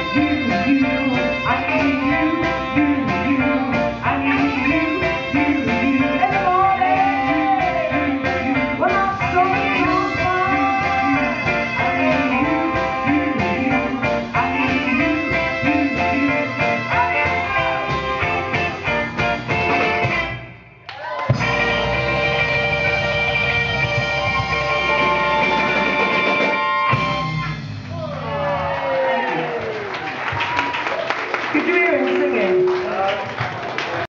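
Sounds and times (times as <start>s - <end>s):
live soul-funk band playing: 0.0s - 20.5s, 21.3s - 28.9s.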